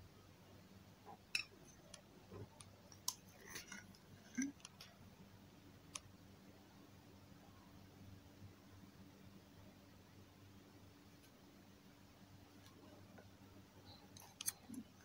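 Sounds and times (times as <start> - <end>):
quiet hum: 0.0 - 15.0.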